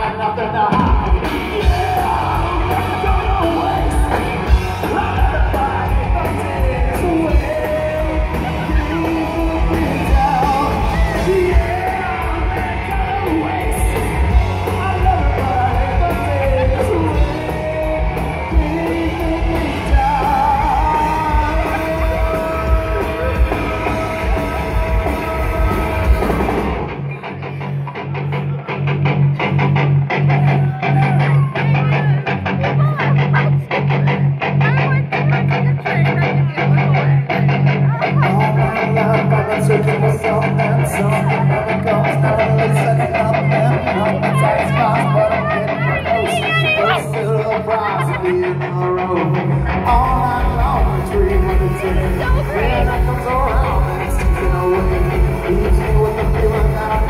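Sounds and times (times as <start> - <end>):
person singing: 0.0 - 28.6, 30.2 - 57.0
drums: 0.0 - 57.0
grunge rock band playing: 0.0 - 57.0.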